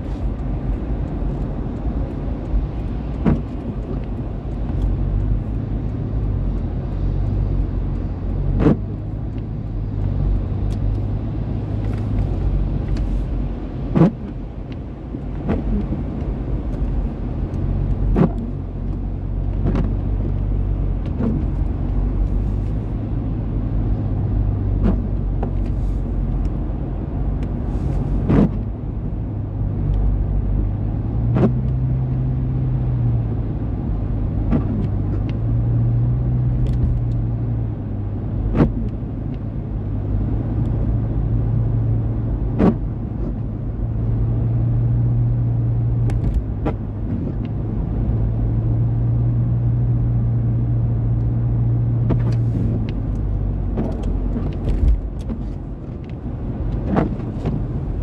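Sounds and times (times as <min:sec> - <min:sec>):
car engine and tyres on wet road: 0:00.0 - 0:58.0.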